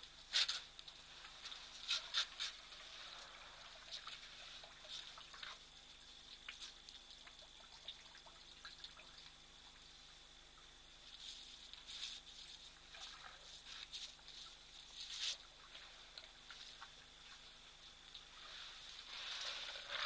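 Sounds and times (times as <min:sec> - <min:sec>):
water splashing and trickling: 0:00.0 - 0:20.0.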